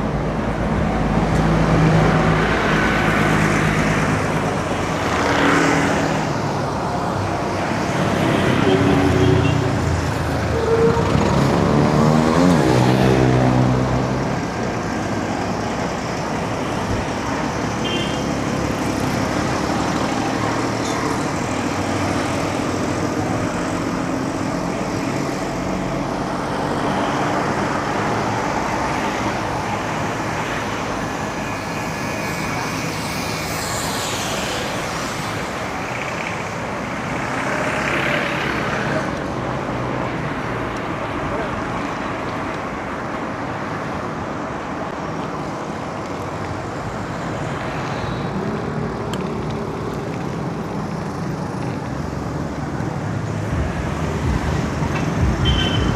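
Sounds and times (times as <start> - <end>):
road traffic: 0.0 - 55.9.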